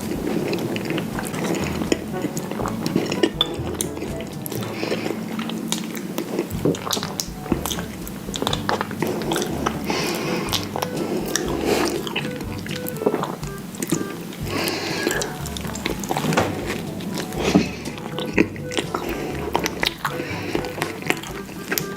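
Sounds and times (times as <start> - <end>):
crunchy food chewing: 0.0 - 21.9.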